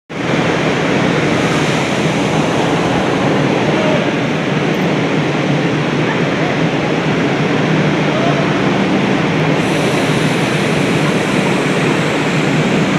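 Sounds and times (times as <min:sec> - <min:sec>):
electric train rushing noise: 0:00.1 - 0:12.9
indistinct voices: 0:00.3 - 0:12.9.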